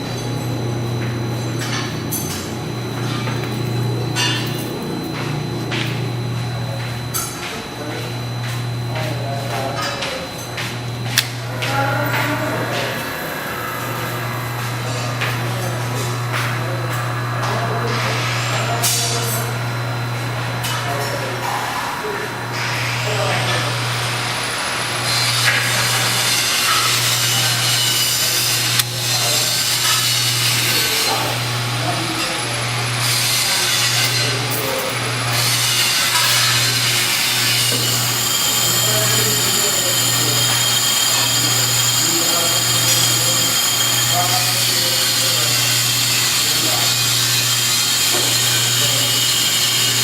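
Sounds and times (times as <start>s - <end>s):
machinery humming and hissing: 0.0s - 50.0s.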